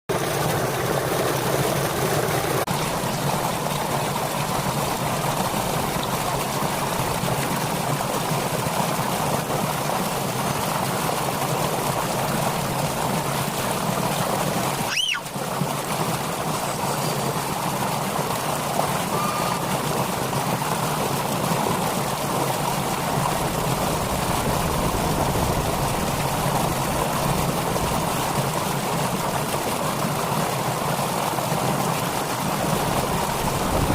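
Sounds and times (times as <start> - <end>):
flowing water: 0.1 - 33.9.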